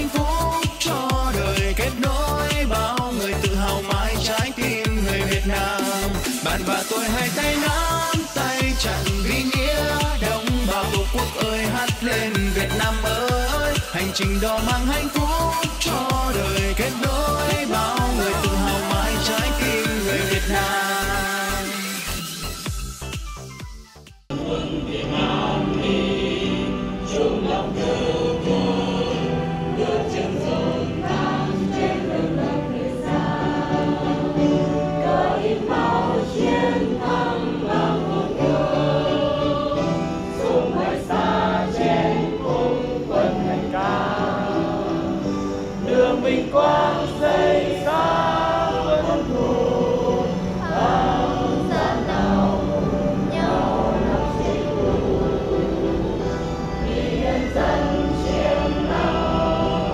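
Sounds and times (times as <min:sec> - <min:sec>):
group singing in unison: 0:00.0 - 0:22.6, 0:24.3 - 0:59.9
backing music: 0:00.0 - 0:59.9.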